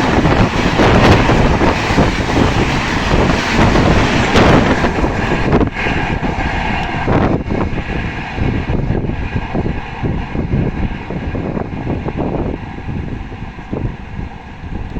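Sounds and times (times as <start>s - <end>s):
train rumbling on rails: 0.0s - 14.9s
wind buffeting microphone: 0.0s - 14.9s.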